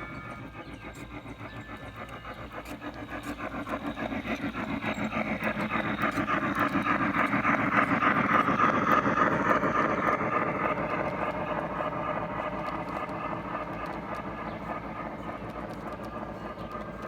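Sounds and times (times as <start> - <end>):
model train wheels clicking: 0.0 - 17.0.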